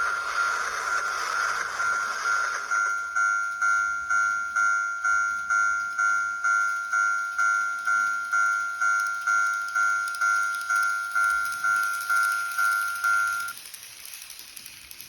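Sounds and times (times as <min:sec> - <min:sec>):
electronic crossing bell dinging: 0:00.0 - 0:13.6
model train passing: 0:00.0 - 0:15.0.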